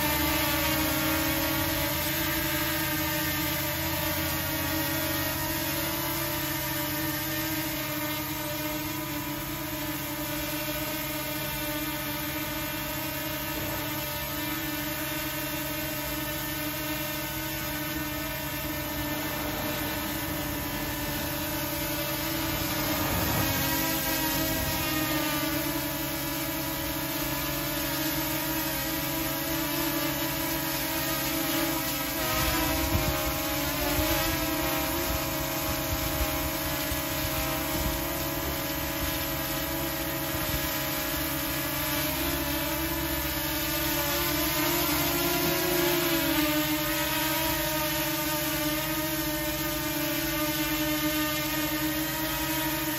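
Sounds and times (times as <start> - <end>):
drone propellers whining: 0.0 - 52.9.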